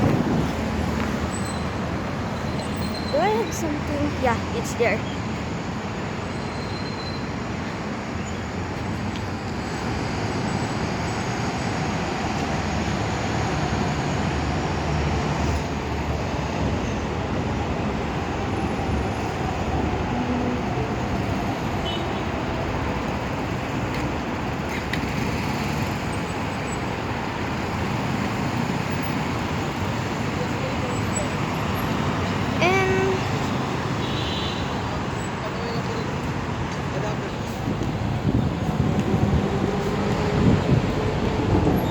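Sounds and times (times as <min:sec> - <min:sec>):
city road traffic: 0:00.0 - 0:41.9
passing train: 0:00.0 - 0:41.9.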